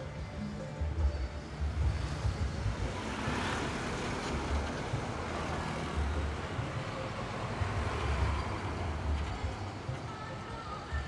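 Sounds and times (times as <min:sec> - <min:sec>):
motorbikes: 0:00.0 - 0:11.0
road traffic: 0:00.0 - 0:11.0
diesel truck passing: 0:00.9 - 0:11.0.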